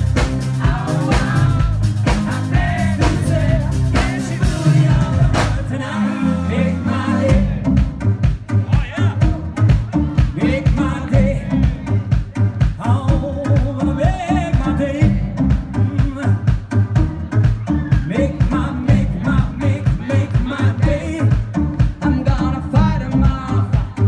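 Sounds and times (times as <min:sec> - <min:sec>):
steady drum beat: 0:00.0 - 0:05.8, 0:07.2 - 0:24.0
men singing: 0:00.0 - 0:07.9, 0:08.7 - 0:16.7, 0:17.9 - 0:24.0.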